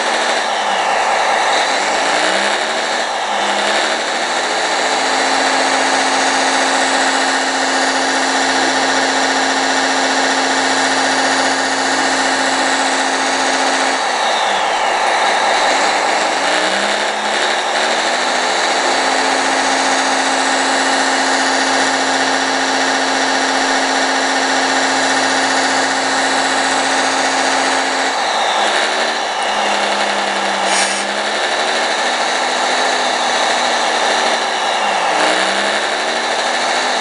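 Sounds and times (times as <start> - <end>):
toy excavator electric whine: 0.0 - 37.0.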